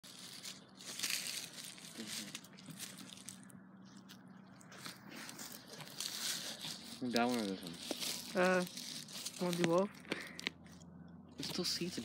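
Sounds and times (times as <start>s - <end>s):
shoes crunching on dry grass and leaves: 0.0s - 10.6s.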